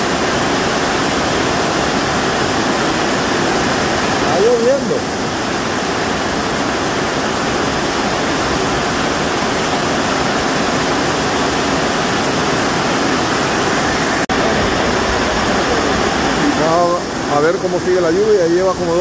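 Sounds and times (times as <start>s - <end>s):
heavy rain on a metal roof: 0.0s - 19.0s
water pouring off roof edge: 0.0s - 19.0s.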